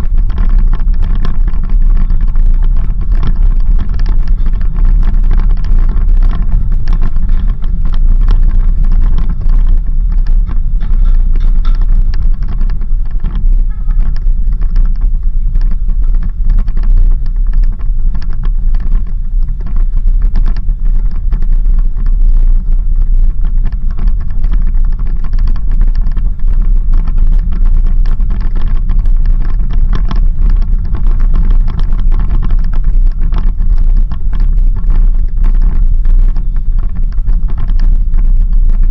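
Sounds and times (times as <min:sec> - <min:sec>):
off-road vehicle rumbling: 0:00.0 - 0:38.9
small knocks and rattles: 0:00.0 - 0:38.9.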